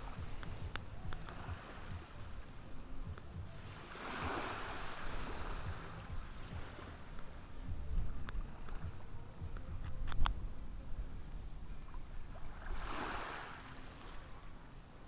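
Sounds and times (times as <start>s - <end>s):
steady low rumble: 0.0s - 12.6s
ocean waves washing onto beach: 0.0s - 15.0s.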